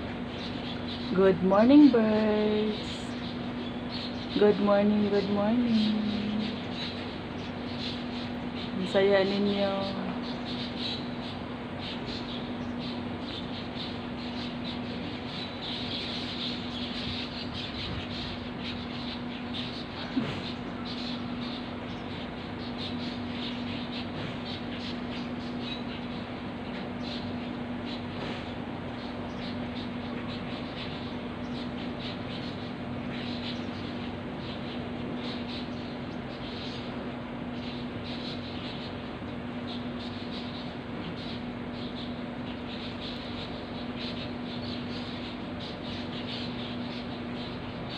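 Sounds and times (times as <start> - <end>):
birds chirping and squawking: 0.0 - 47.9
steady low hum: 0.0 - 47.9.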